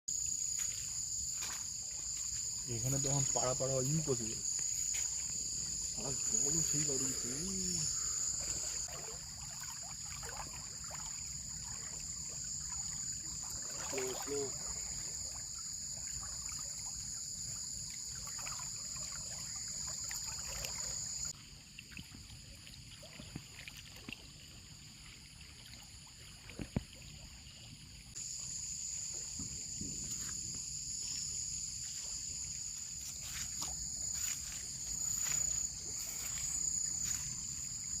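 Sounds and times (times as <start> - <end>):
insects trilling: 0.1 - 38.0.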